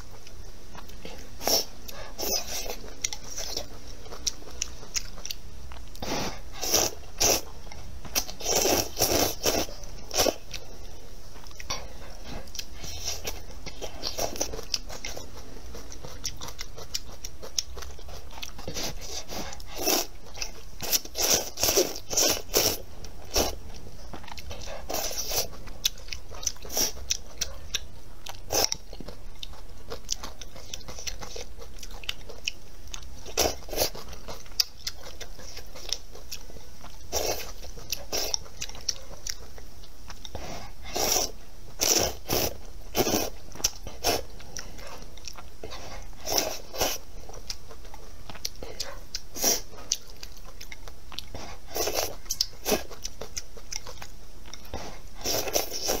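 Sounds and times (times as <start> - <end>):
chewing and crunching: 0.0 - 56.0.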